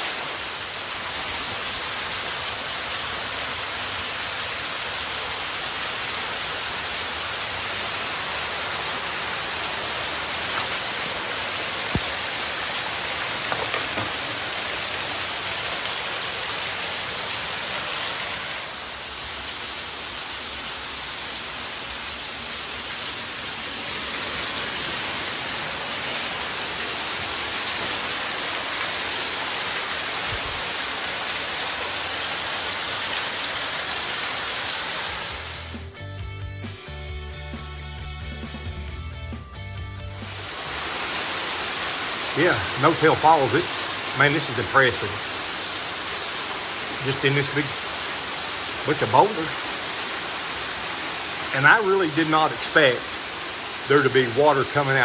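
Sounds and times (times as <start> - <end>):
water rushing over boulders: 0.0 - 35.9, 40.2 - 55.0.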